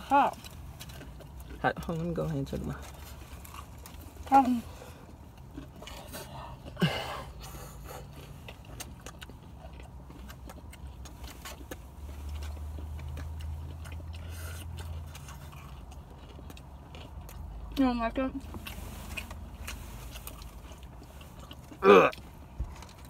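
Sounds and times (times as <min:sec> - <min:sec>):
car rumble: 0:00.0 - 0:23.0
person chewing hot food: 0:00.0 - 0:23.0.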